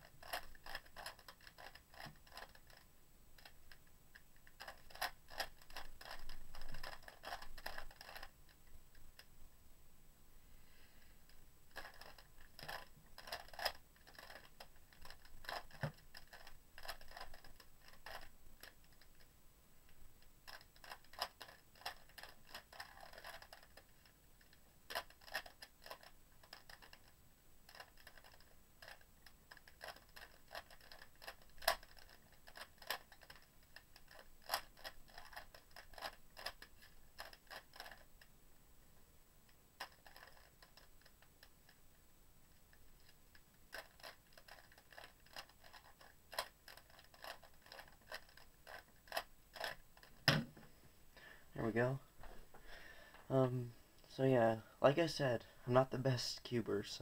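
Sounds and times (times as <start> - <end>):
speed cube plastic clicks: 0.0 - 9.3, 11.2 - 19.3, 19.9 - 38.3, 39.5 - 41.8, 42.6 - 50.6.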